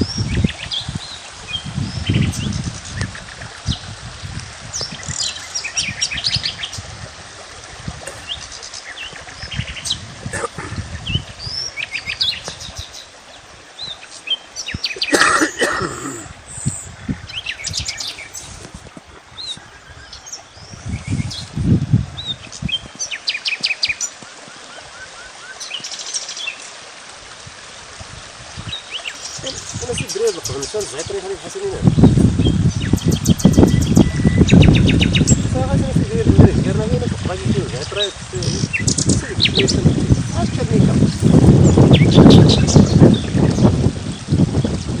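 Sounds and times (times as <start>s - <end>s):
small birds chirping and trilling: 0.0s - 7.0s, 8.1s - 15.7s, 16.4s - 26.7s, 28.5s - 45.0s.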